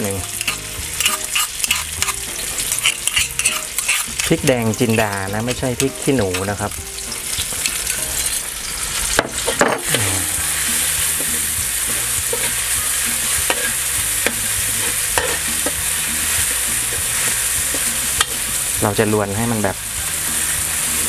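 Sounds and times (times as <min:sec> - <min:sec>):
metal spatula scraping a wok: 0:00.0 - 0:06.7, 0:07.3 - 0:18.8
chillies and garlic sizzling: 0:00.0 - 0:21.0.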